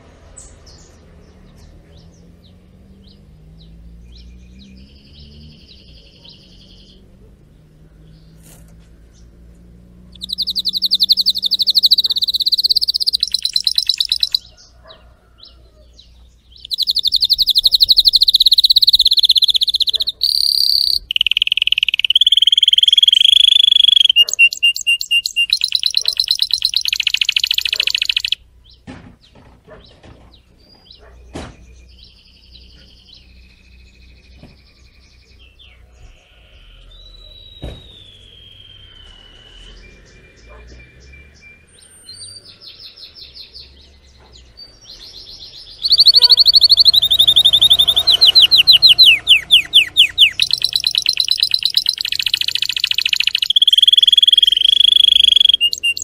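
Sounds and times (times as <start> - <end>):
canary singing trills: 0.4 - 28.8, 29.7 - 56.0
soft bird chirps: 0.4 - 28.8, 29.8 - 56.0.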